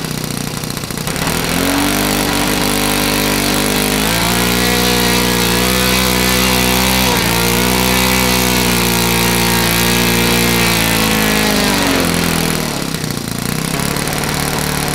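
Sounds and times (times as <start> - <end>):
model aircraft engine running: 0.0 - 14.9.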